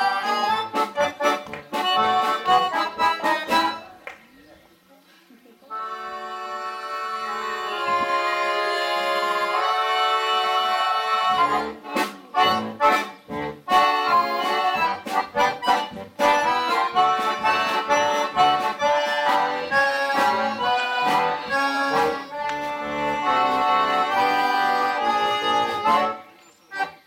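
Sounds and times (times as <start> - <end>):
accordion orchestra playing: 0.0 - 4.0, 5.7 - 27.0.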